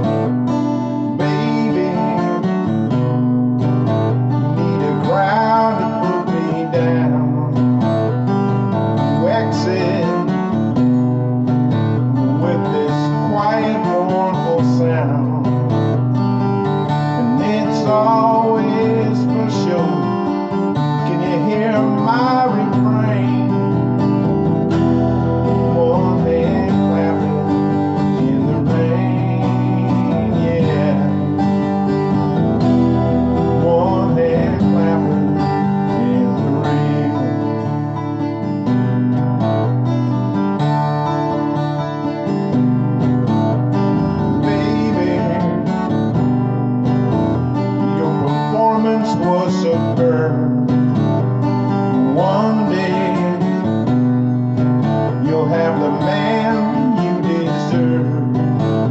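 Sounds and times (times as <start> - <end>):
acoustic guitar music: 0.0 - 58.9.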